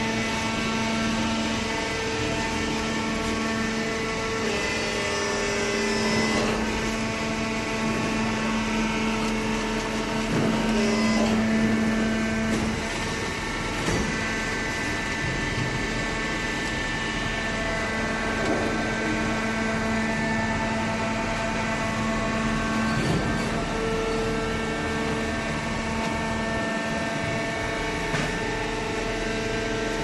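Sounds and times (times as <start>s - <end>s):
industrial machinery hum and whine: 0.0s - 30.0s.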